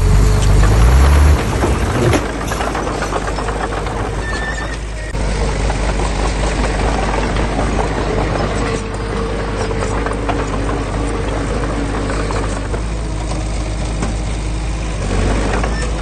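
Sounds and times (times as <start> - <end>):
heavy diesel engine rumbling: 0.0 - 16.0.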